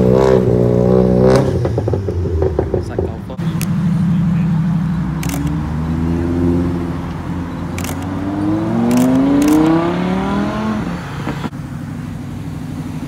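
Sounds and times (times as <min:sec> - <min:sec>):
car engine accelerating: 0:00.0 - 0:13.0
rumble of other engines: 0:00.0 - 0:13.0.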